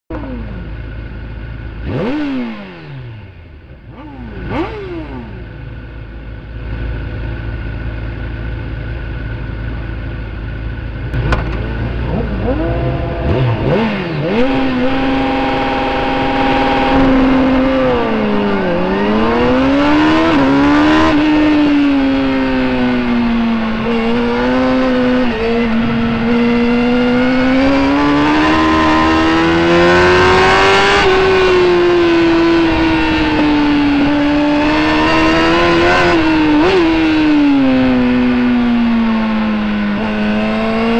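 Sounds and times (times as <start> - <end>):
motorcycle engine revving: 0.1 - 40.9.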